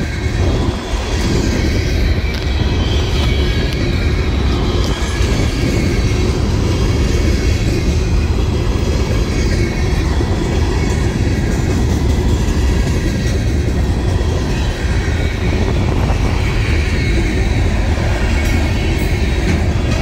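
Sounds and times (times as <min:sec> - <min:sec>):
light clickety-clack: 0:00.0 - 0:20.0
train wheels rumbling on rail: 0:00.0 - 0:20.0.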